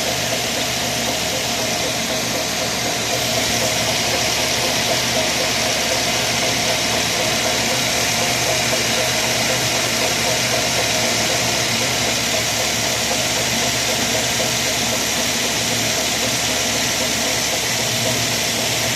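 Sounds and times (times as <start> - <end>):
rhythmic rattling from engine belt: 0.0 - 18.9.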